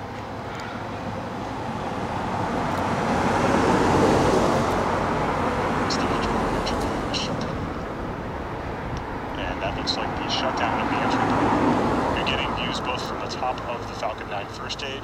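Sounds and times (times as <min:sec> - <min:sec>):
road vehicle passing by: 0:00.0 - 0:15.0.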